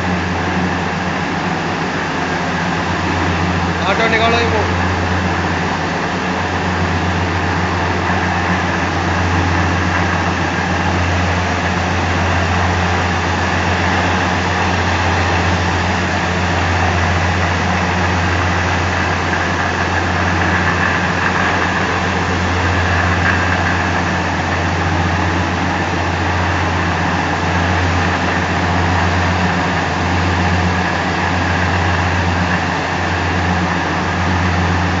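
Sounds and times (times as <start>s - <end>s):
stone grinding mills humming: 0.0s - 35.0s.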